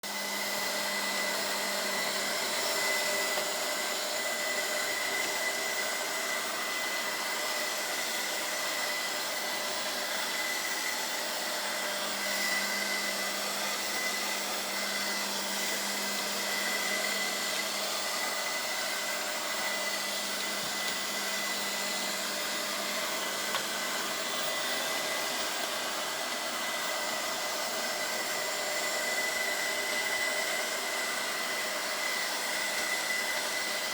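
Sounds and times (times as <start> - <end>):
robot vacuum cleaner whirring: 0.0 - 33.9.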